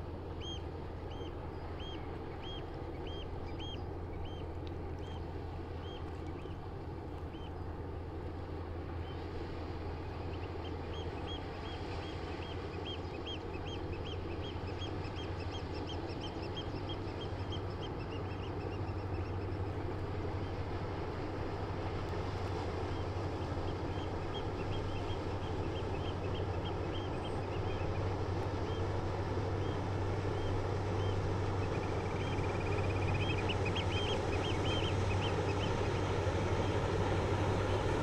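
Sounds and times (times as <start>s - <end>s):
ship engine drone: 0.0s - 38.0s.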